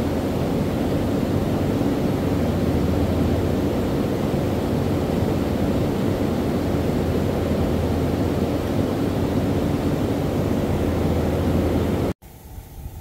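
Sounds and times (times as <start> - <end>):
fan motor hum: 0.0 - 13.0.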